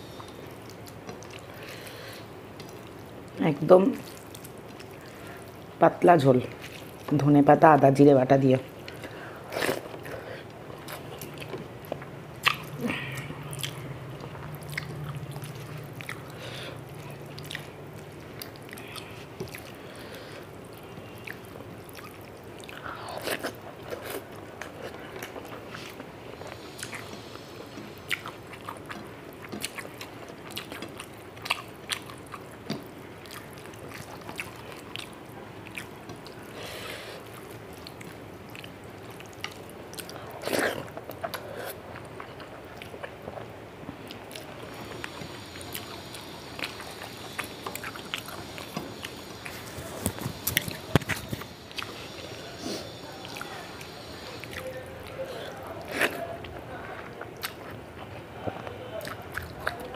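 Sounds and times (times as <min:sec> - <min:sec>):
wet chewing and mouth clicks: 0:08.8 - 0:36.6, 0:37.2 - 0:52.4, 0:53.2 - 0:59.9.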